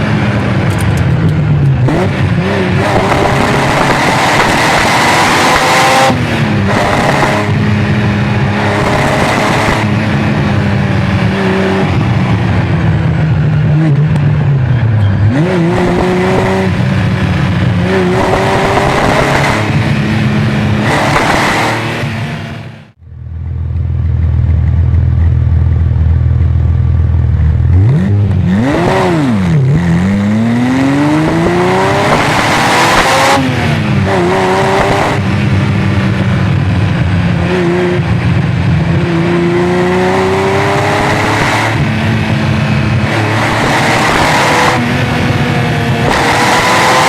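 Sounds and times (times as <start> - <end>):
sports car engine revving: 0.0 - 23.0, 24.0 - 47.0.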